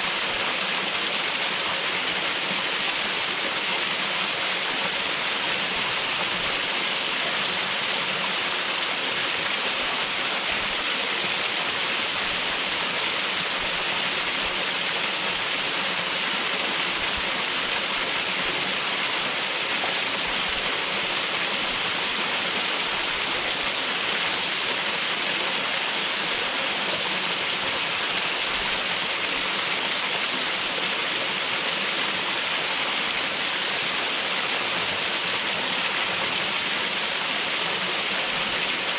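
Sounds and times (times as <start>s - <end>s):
waterfall pouring and splashing: 0.0s - 38.9s.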